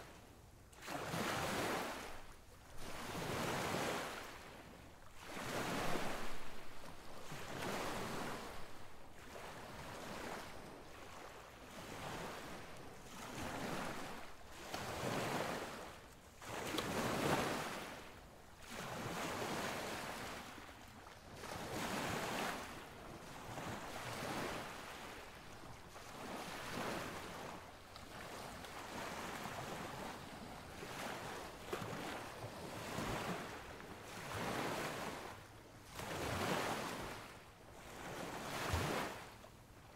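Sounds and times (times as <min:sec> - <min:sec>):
wind: 0:00.0 - 0:39.9
sea surf: 0:00.8 - 0:39.4.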